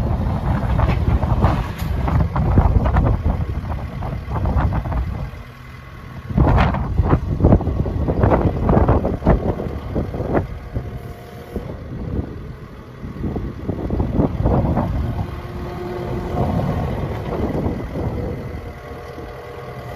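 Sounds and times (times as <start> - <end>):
diesel engine rumbling: 0.0 - 19.9.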